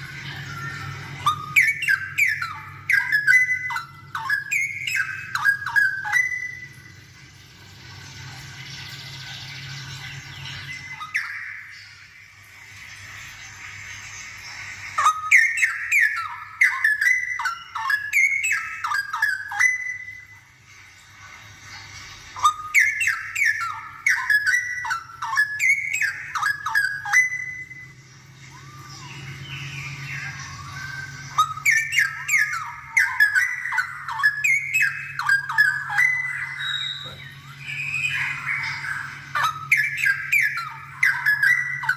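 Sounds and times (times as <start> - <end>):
bird whistled song: 0.0 - 7.5, 8.2 - 20.7, 21.7 - 41.9.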